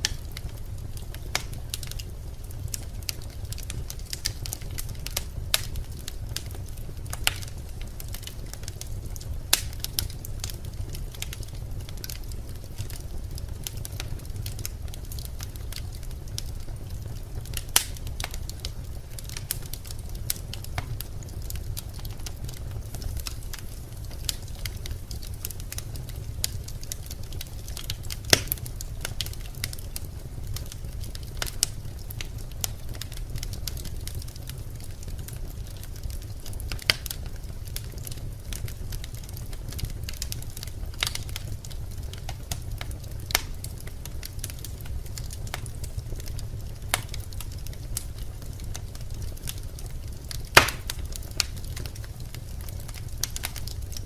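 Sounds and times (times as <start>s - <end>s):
fire rumbling in fireplace: 0.0s - 54.0s
logs crackling and popping: 0.0s - 54.0s.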